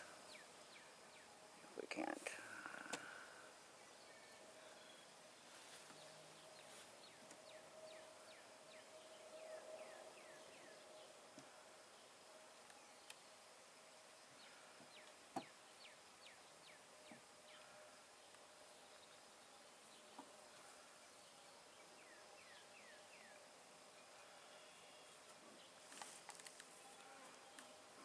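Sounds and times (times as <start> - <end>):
honey bees humming: 0.0 - 28.0.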